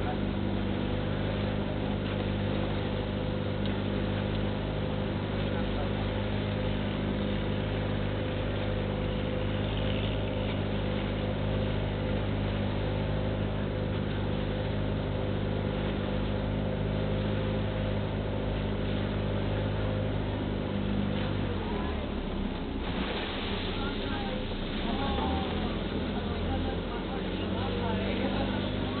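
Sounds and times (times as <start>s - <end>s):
boat engine droning: 0.0s - 29.0s
water and wind hiss: 0.0s - 29.0s.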